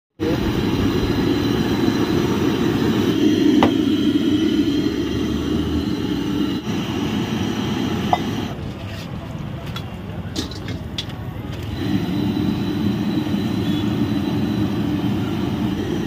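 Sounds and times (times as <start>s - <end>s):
street traffic: 0.1s - 16.0s
gas burners running: 0.2s - 16.0s.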